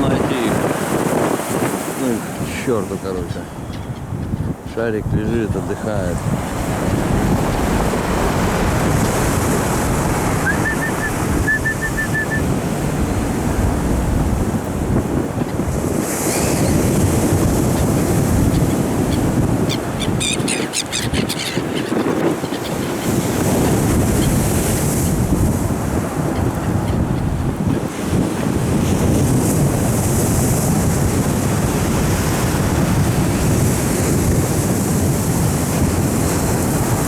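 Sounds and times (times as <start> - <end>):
waves breaking ashore: 0.0 - 37.0
wind buffeting microphone: 0.0 - 37.0.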